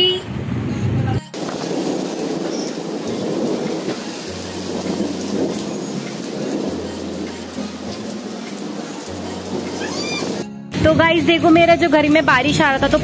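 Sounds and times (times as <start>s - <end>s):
heavy rain pouring: 0.5s - 13.0s.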